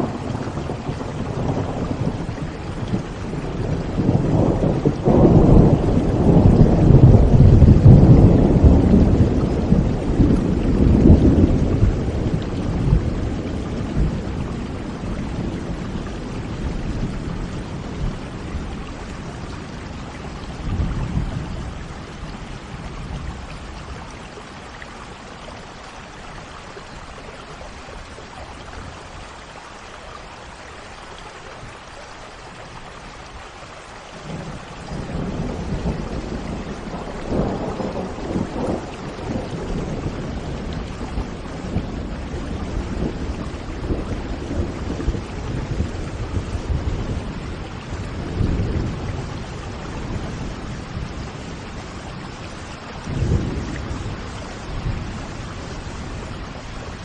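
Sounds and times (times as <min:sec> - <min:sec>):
rolling thunder: 0:00.0 - 0:24.1, 0:34.2 - 0:57.0
steady rain: 0:00.0 - 0:57.0.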